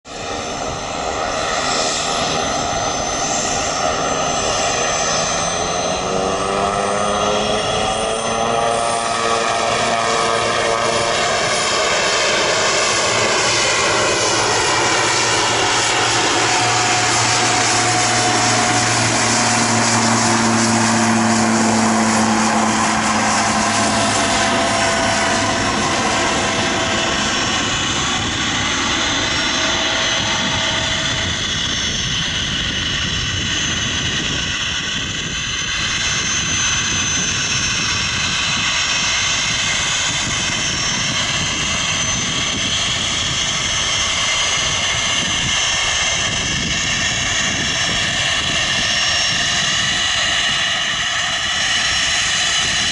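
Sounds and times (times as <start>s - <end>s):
turboprop aircraft taking off: 0.0s - 52.9s.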